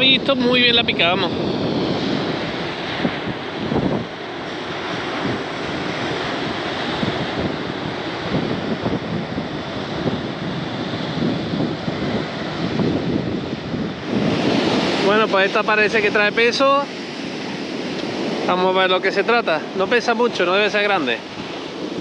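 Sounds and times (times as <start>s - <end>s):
sea surf breaking: 0.0s - 22.0s
wind buffeting microphone: 0.0s - 22.0s.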